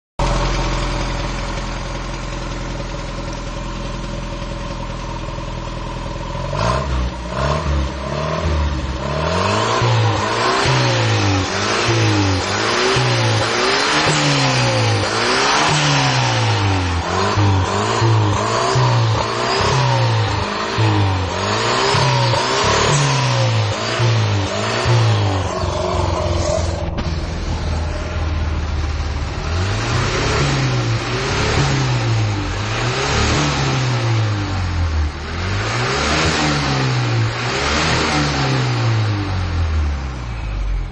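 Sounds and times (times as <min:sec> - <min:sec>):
car engine idling and revving: 0:00.2 - 0:40.9.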